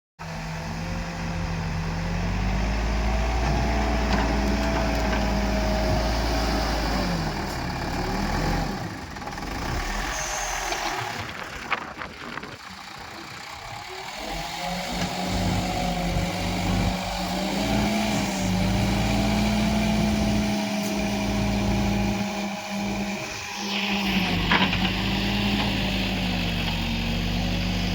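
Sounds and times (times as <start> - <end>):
diesel engine working: 0.2 - 27.9.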